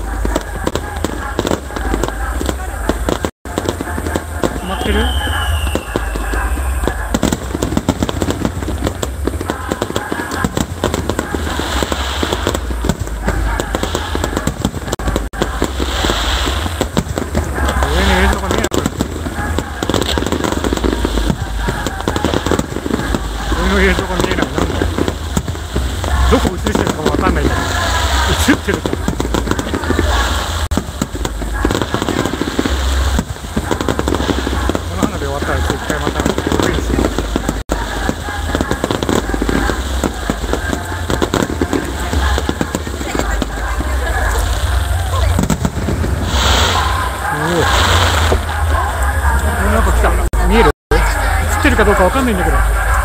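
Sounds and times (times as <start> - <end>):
low rumble: 0.0 - 51.5
fireworks bangs and crackles: 0.0 - 53.0.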